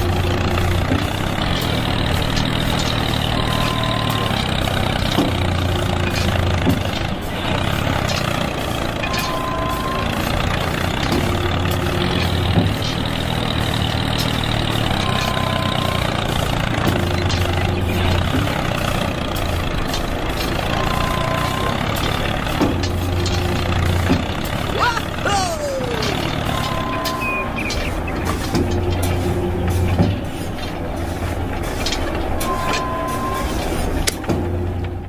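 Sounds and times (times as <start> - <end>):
engine running low hum: 0.0 - 35.0.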